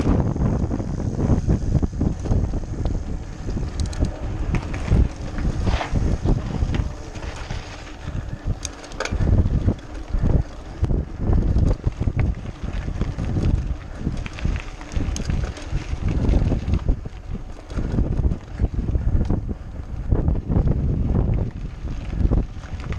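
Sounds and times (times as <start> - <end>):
bike rattling over rough ground: 0.0 - 22.9
wind buffeting microphone: 0.0 - 22.9.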